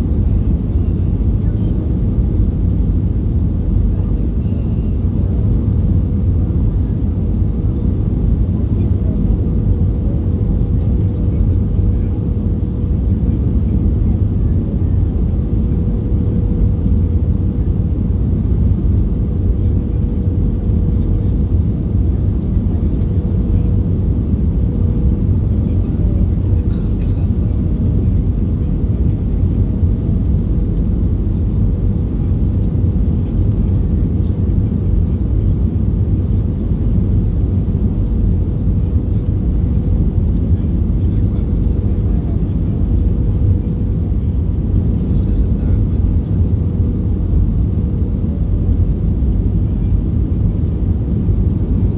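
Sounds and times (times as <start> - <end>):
jet engine and airflow roar in cabin: 0.0 - 51.9.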